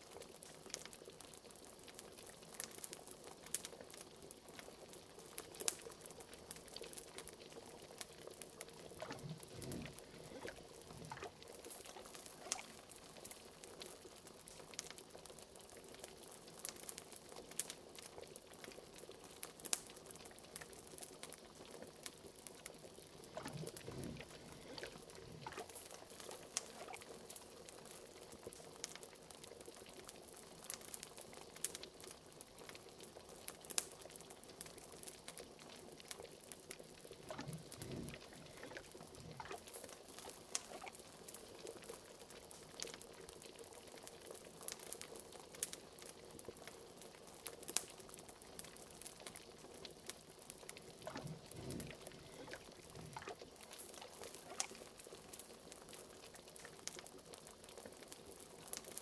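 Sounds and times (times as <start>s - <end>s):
liquid bubbling with pops: 0.1s - 16.2s, 16.9s - 46.8s, 47.4s - 59.0s.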